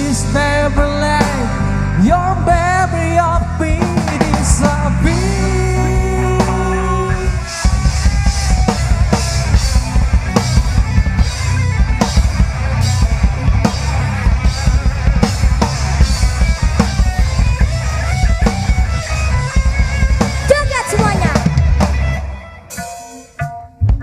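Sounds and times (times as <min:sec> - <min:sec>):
drum kit driving beat: 0:00.0 - 0:24.0
instrumental rock band: 0:00.0 - 0:24.0.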